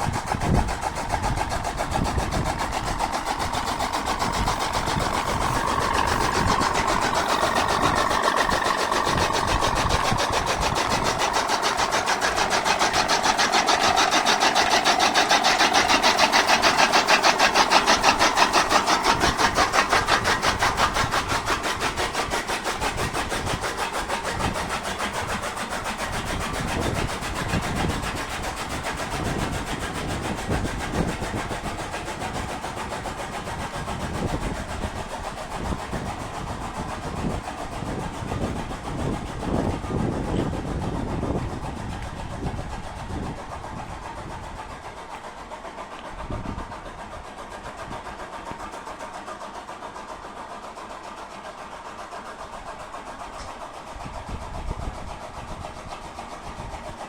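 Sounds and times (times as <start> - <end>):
engine running with fast pulse: 0.0 - 57.0.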